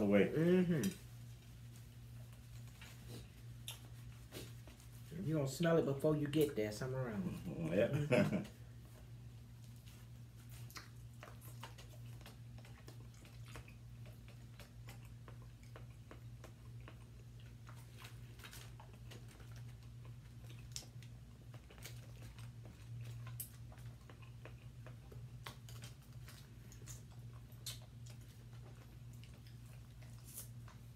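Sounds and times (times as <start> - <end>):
chewing and lip smacks: 0.8 - 5.1, 8.5 - 30.9.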